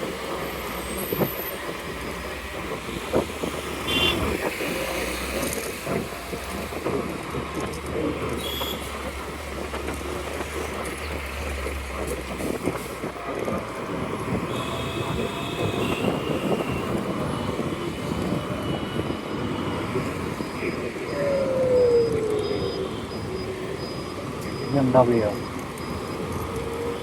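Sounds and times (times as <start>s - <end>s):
wind buffeting microphone: 0.0s - 24.7s
road and traffic noise: 0.0s - 27.0s.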